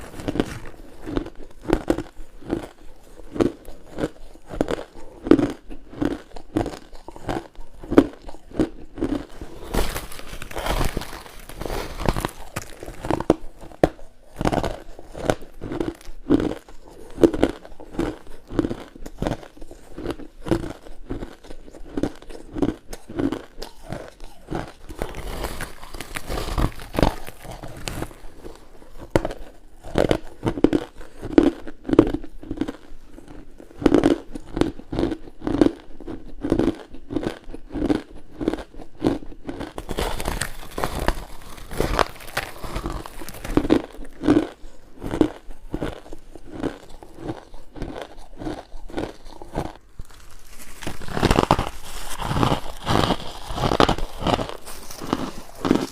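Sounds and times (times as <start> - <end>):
ice crunching when bitten: 0.0 - 55.9.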